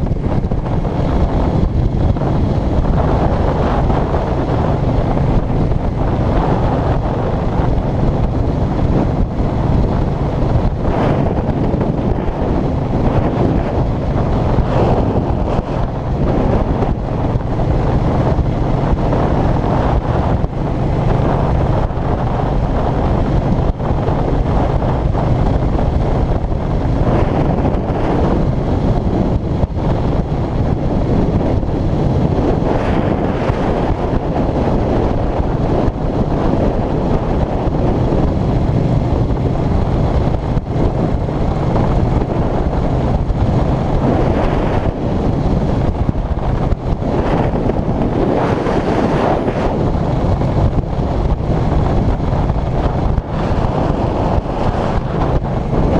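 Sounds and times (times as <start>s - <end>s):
motorcycle engine cruising: 0.0s - 55.9s
wind buffeting: 0.0s - 55.9s.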